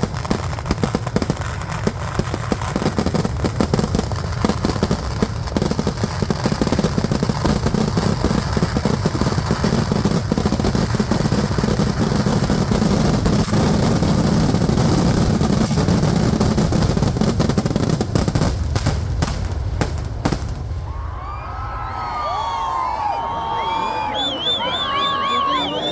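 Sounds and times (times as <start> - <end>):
firecrackers going off: 0.0 - 25.9.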